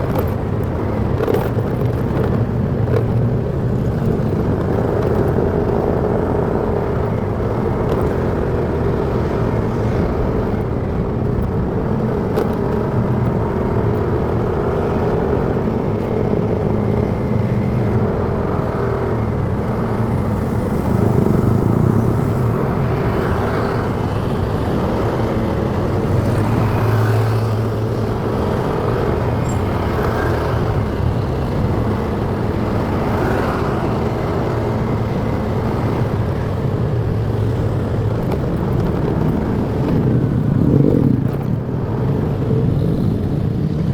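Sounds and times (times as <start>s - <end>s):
motorcycle engine hum: 0.0s - 43.9s
road noise: 0.0s - 43.9s.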